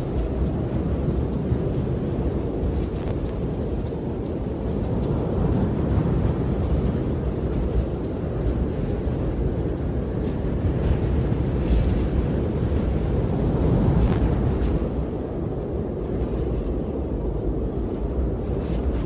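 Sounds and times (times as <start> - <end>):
strong wind blowing: 0.0 - 19.0.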